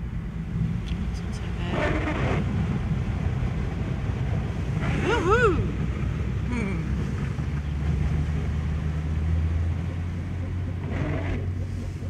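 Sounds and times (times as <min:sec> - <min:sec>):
tyre noise on wet road: 0:00.0 - 0:12.0
vehicle engine droning: 0:00.0 - 0:12.0.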